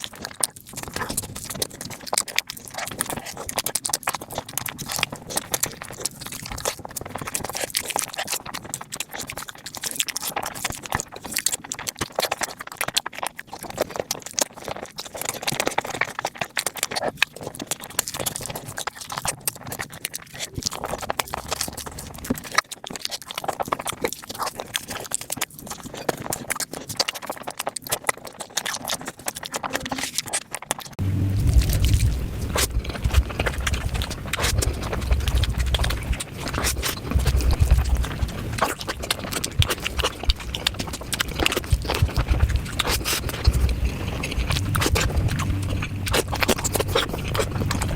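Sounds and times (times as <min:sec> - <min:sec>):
chewing clicks and mouth smacks: 0:00.0 - 0:47.9.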